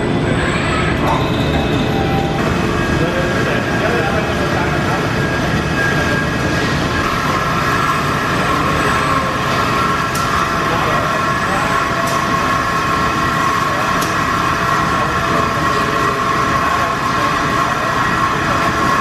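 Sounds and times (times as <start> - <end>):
machine noise with high whine: 0.0 - 19.0.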